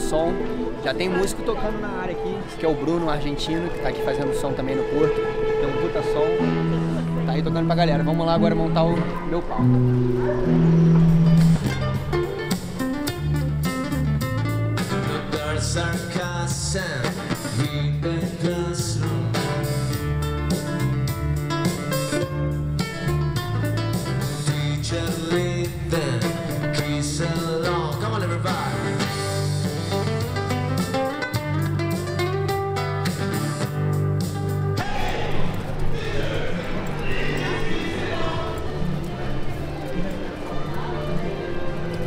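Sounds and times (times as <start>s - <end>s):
amplified acoustic guitar: 0.0s - 42.0s
bass line: 5.2s - 39.7s.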